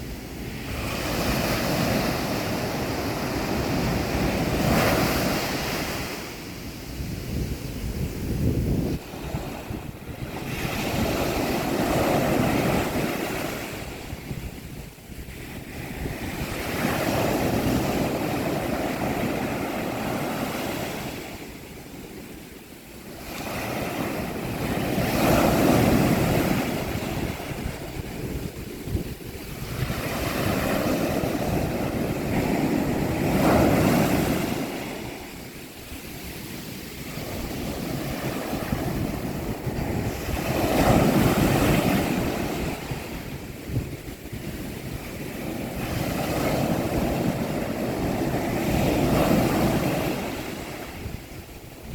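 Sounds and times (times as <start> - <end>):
waves breaking on a beach: 0.0 - 51.9.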